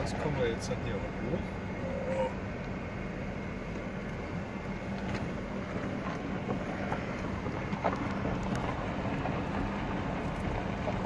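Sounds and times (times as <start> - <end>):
car engine: 0.0 - 11.0
tyres on gravel: 0.0 - 11.0.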